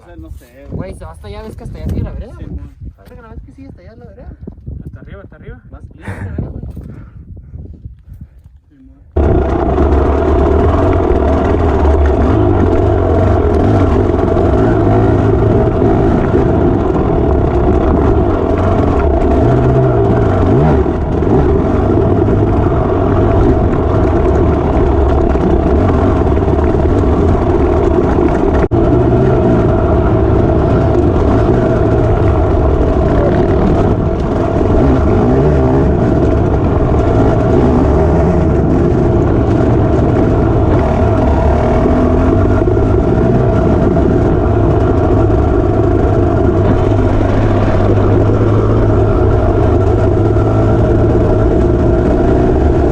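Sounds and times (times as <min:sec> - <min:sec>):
dirt bike engine running: 0:09.1 - 0:52.9.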